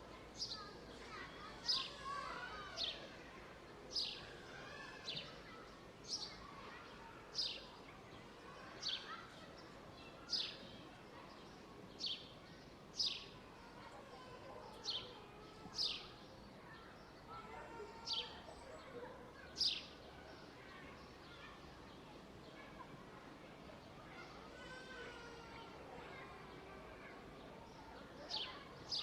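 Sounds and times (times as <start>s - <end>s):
faint outdoor background: 0.0s - 29.0s.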